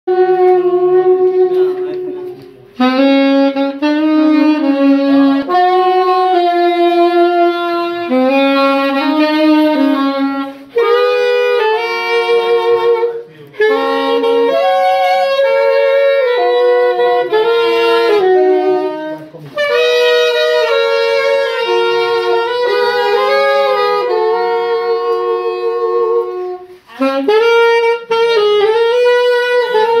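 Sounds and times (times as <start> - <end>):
saxophone melody: 0.1 - 30.0.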